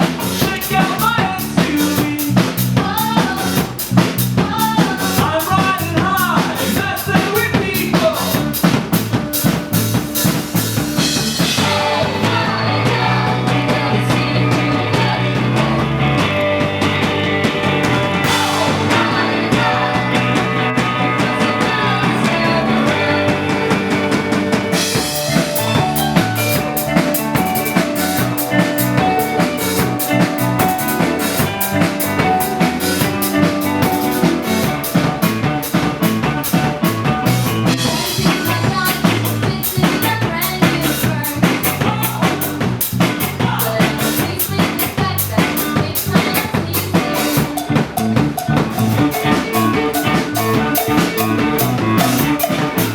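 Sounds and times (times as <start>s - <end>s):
music with drum kit beat: 0.0s - 52.9s.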